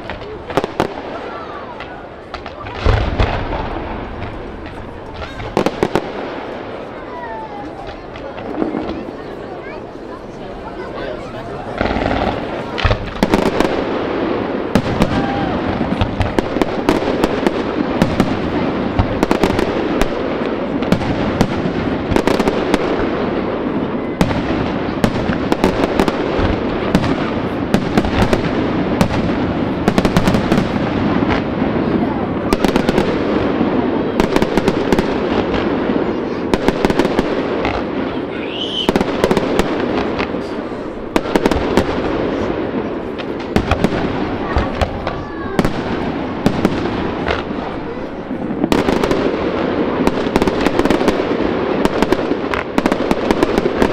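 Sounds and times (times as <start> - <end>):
fireworks bursting and crackling: 0.0 - 53.9.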